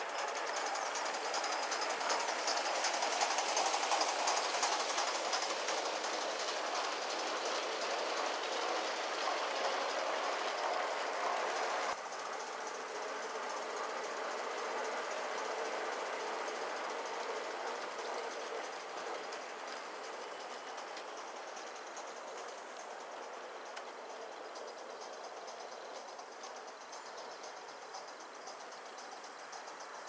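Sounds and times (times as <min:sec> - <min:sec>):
model steam locomotive chuffing: 0:00.0 - 0:30.0.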